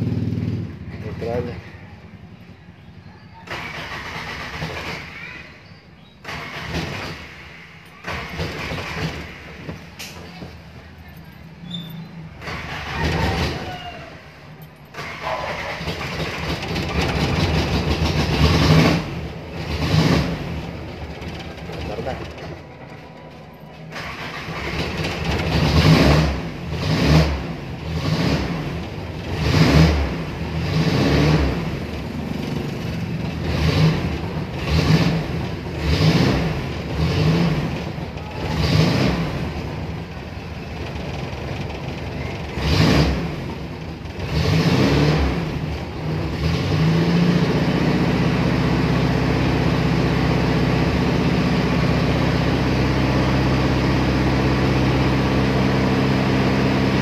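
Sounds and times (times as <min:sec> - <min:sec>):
engine idling: 0:00.0 - 0:57.0
petrol engine revving: 0:00.0 - 0:57.0.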